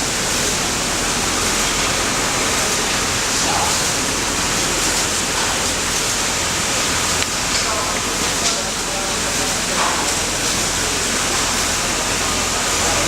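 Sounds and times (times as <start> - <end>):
machinery running with loud hiss: 0.0 - 13.0.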